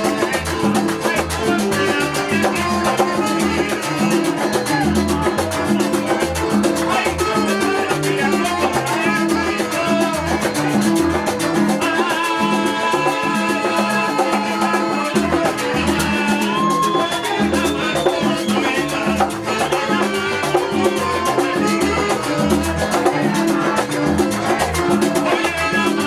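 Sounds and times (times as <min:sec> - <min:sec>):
upbeat salsa music: 0:00.0 - 0:26.0.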